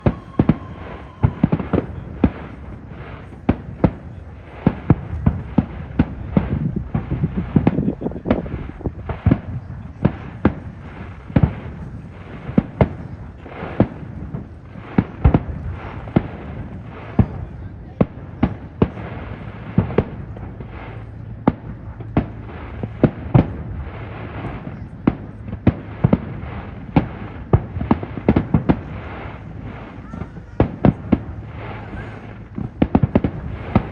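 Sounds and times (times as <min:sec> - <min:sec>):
continuous rumble: 0:00.0 - 0:33.9
fireworks bangs: 0:00.0 - 0:33.9.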